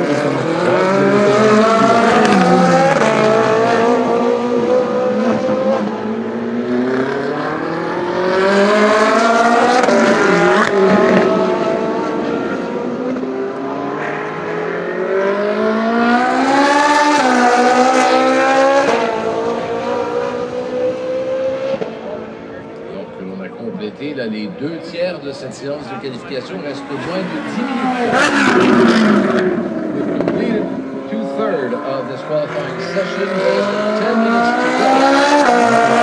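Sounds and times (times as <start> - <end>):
race car engines passing: 0.0 - 36.0.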